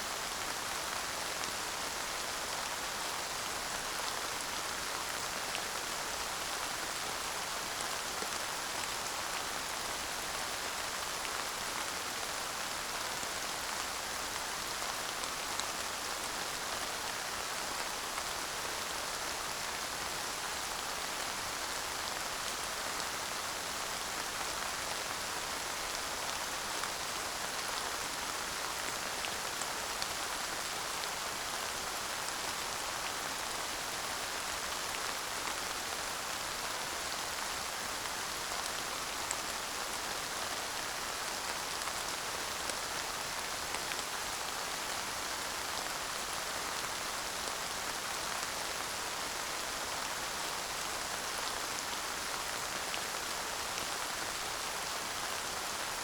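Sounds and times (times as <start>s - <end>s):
light rain falling: 0.0s - 56.0s.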